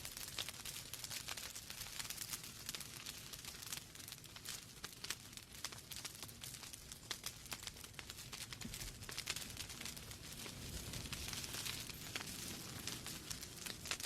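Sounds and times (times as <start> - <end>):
low rumble of burning logs: 0.0 - 14.0
wood fire crackling: 0.0 - 14.0.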